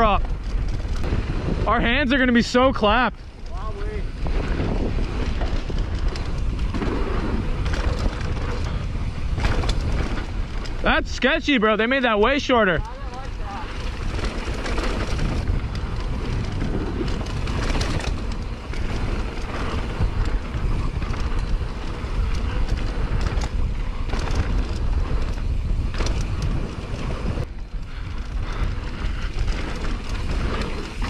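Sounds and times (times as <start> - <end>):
bike clicks and knocks over bumps: 0.0 - 31.0
bike tyres rolling on dirt: 0.0 - 31.0
wind rumbling on microphone: 0.0 - 31.0.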